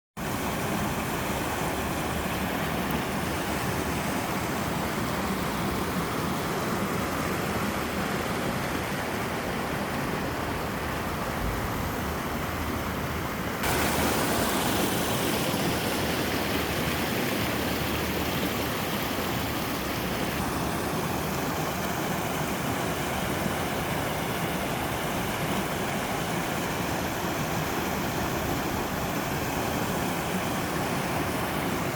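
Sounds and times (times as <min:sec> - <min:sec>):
water rushing over rocks: 0:00.2 - 0:31.9.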